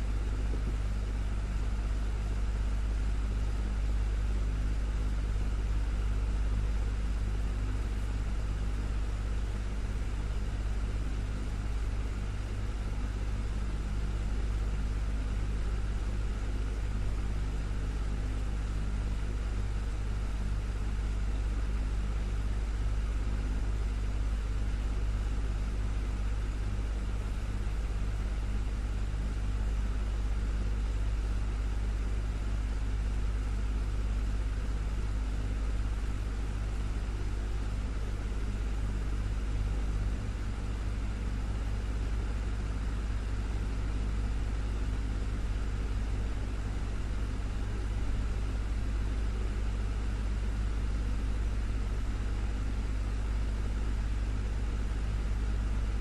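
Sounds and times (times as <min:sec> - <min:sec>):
desktop fan running: 0:00.0 - 0:56.0.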